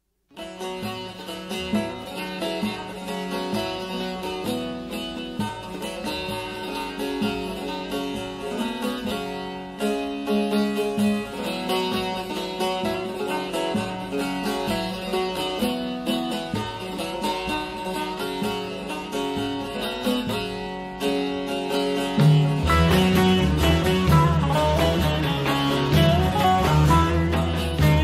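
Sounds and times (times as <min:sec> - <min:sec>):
plucked string instruments melody: 0:00.3 - 0:28.0.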